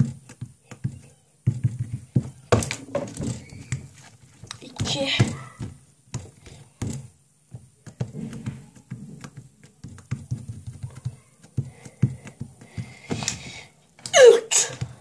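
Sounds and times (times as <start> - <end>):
fingers tapping slime: 0.0 - 14.1.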